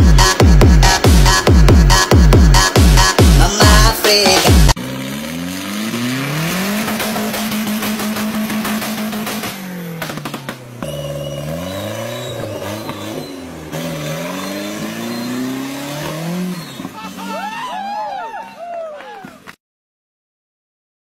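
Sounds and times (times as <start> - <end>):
engine revving: 0.0 - 18.6.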